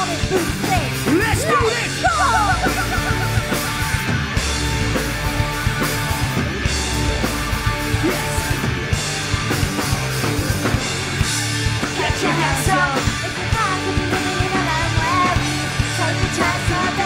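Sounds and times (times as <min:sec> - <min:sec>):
live ska punk band playing: 0:00.0 - 0:17.0.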